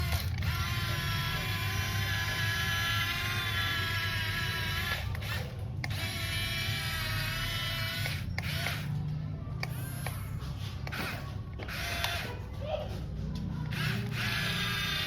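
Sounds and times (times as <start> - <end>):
small electric motor whining: 0.0 - 9.0, 9.6 - 12.3, 13.7 - 15.0.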